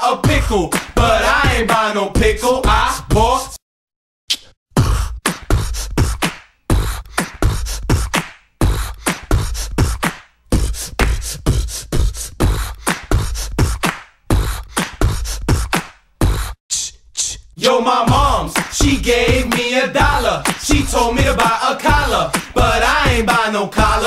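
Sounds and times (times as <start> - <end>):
beatboxing kick and snare sounds: 0.0 - 3.6, 4.3 - 17.5, 18.1 - 24.0.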